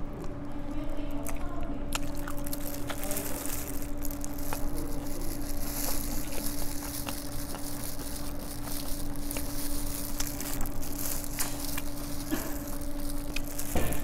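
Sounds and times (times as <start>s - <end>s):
steady low hum: 0.0s - 14.0s
close chewing with wet smacks: 1.1s - 3.2s, 3.9s - 13.6s.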